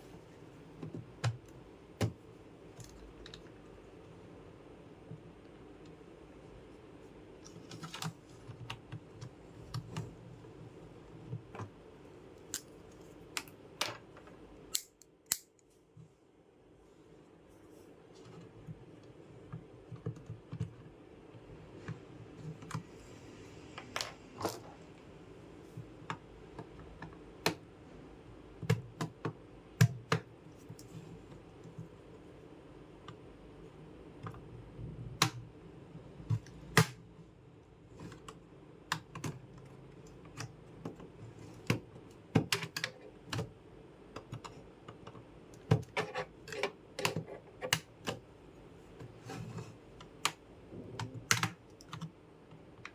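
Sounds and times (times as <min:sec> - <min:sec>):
faint low hum: 0:00.0 - 0:52.9.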